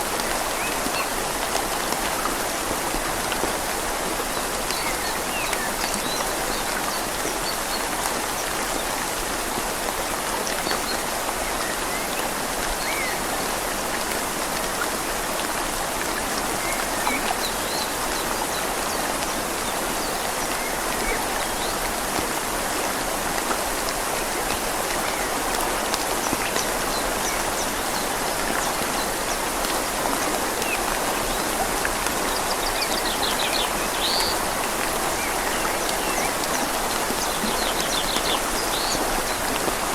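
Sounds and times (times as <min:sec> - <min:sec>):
flowing river: 0:00.0 - 0:39.9
rain falling on leaves: 0:00.0 - 0:39.9.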